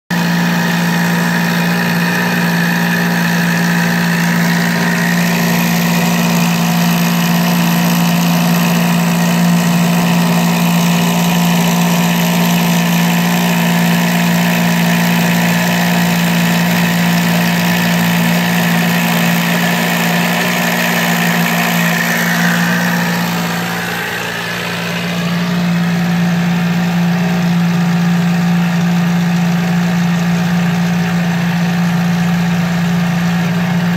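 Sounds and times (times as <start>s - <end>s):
machine whine: 0.1s - 28.2s.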